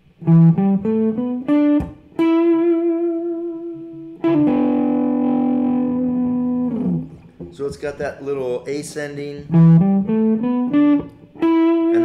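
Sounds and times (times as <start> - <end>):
electric guitar blues-rock phrase: 0.0 - 7.5, 9.4 - 12.0.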